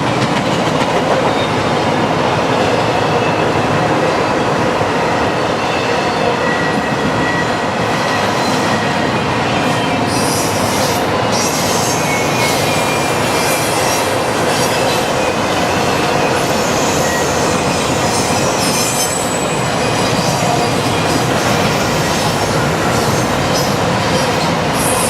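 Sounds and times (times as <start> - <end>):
freight train wheels on rails: 0.0 - 25.0
high wheel squeal: 4.4 - 25.0.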